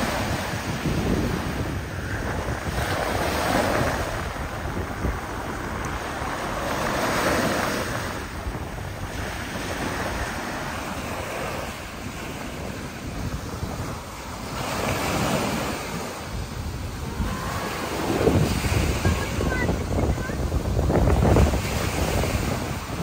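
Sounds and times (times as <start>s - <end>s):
ocean surf breaking on beach: 0.0s - 23.0s
wind rumbling on microphone: 0.0s - 23.0s.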